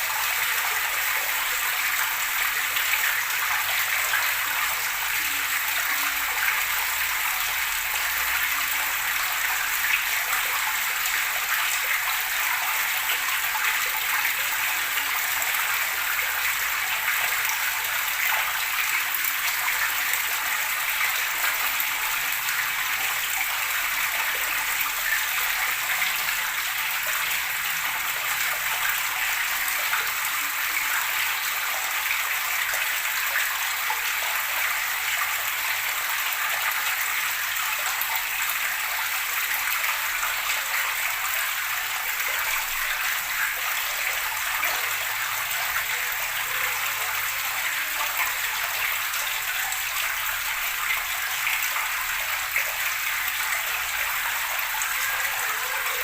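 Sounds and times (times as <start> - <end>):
running water flowing: 0.0 - 56.0.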